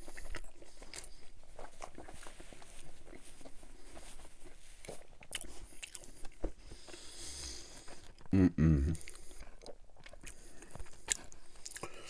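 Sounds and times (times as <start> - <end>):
close chewing with wet mouth clicks: 0.0 - 8.4, 9.0 - 12.0.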